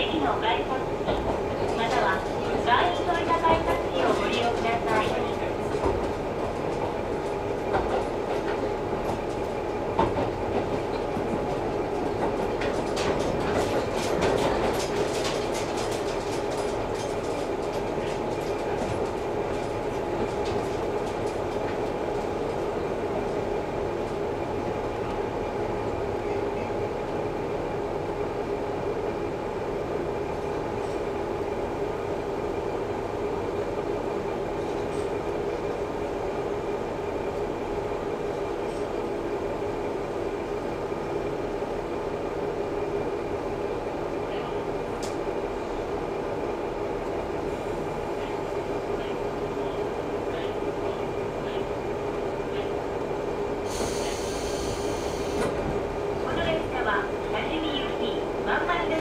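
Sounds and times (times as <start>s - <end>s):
diesel railcar engine hum: 0.0s - 59.0s.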